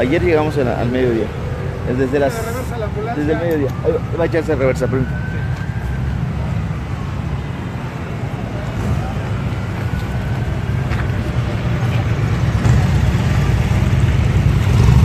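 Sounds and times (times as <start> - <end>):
vehicle engines rumbling: 0.0 - 15.0
vehicle passing: 0.0 - 15.0.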